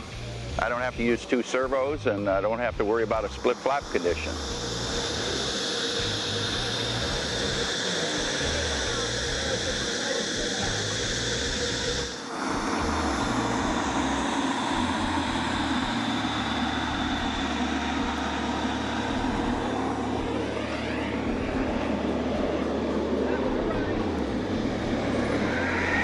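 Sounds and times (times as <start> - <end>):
model jet turbine whine: 0.0 - 26.0.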